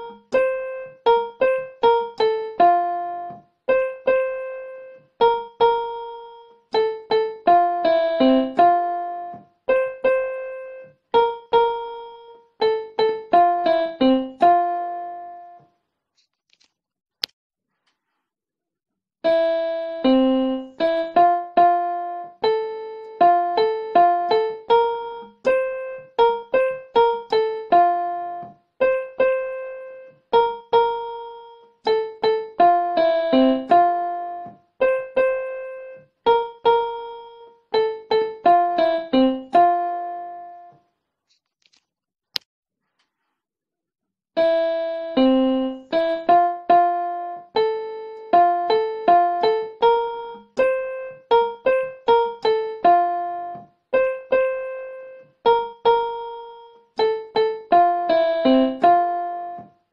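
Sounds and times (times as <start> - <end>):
simple keyboard melody: 0.0 - 15.8, 19.2 - 40.9, 44.4 - 59.9.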